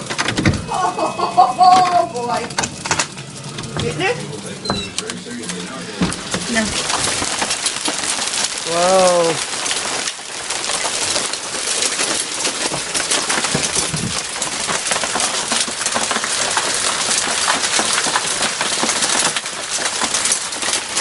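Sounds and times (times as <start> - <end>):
hail clattering on surfaces: 0.0 - 21.0.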